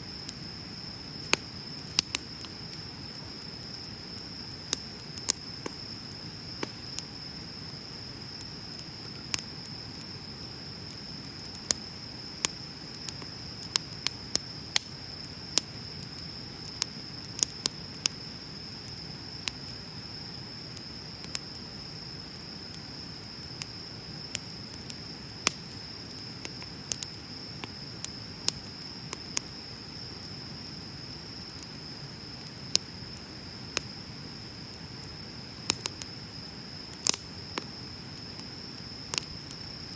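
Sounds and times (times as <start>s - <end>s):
bonfire crackling and popping: 0.0s - 39.9s
insect trill: 0.0s - 39.9s.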